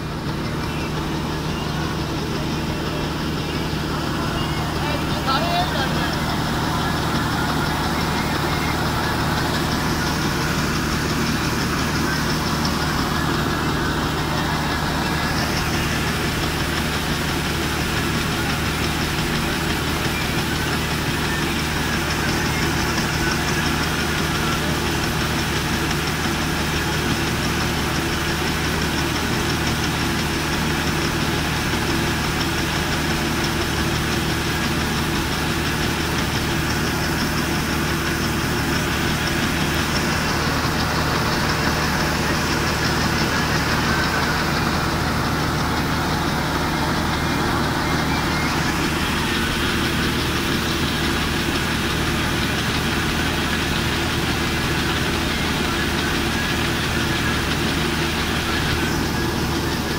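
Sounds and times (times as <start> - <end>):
auger pouring grain: 0.0 - 59.9
combine harvester engine droning: 0.0 - 59.9.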